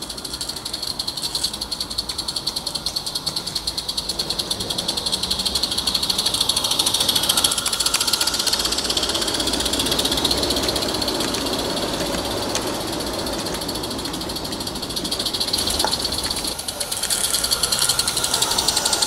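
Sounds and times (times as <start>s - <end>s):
steam locomotive exhaust beats: 0.0s - 19.0s
wheels clattering on track: 0.0s - 19.0s.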